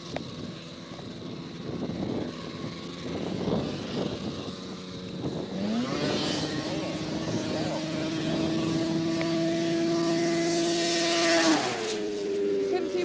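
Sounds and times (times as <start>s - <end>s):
snowmobile engines running: 0.0s - 13.0s
snowmobile engine revving: 1.6s - 13.0s.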